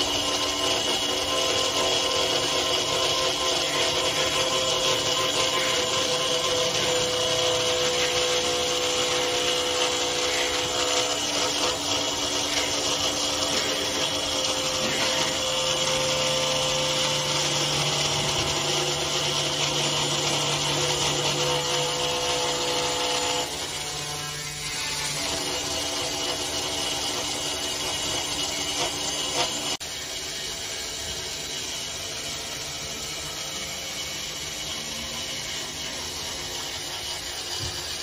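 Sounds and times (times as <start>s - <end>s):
drill bit cutting plywood: 0.0s - 38.0s
router spindle whining: 0.0s - 38.0s.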